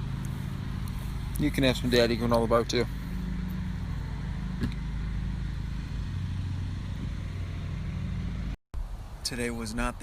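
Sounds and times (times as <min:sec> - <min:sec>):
car engine and cabin hum: 0:00.0 - 0:08.6.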